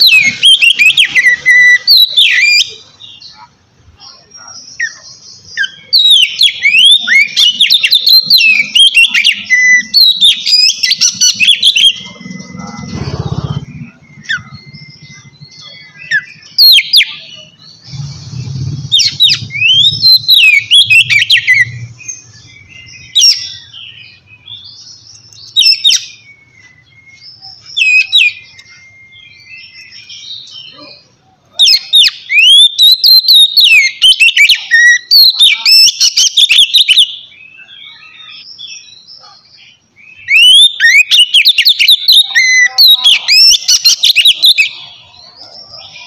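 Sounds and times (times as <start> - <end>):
bird singing whistled phrases: 0.0 - 46.0.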